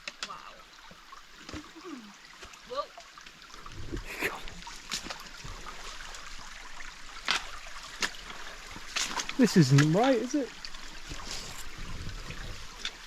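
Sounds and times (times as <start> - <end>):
stream water trickling: 0.0 - 13.0.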